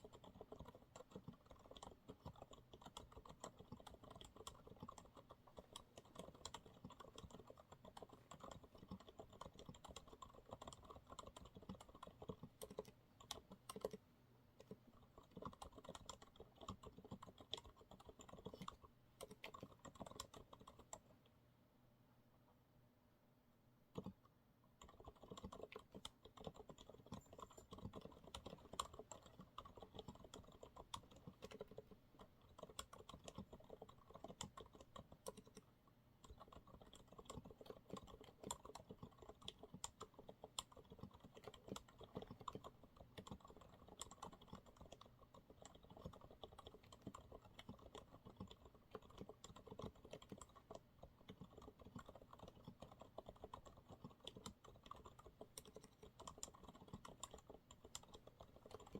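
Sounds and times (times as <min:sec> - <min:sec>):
quiet fast keyboard typing: 0:00.0 - 0:21.3, 0:23.8 - 0:58.9.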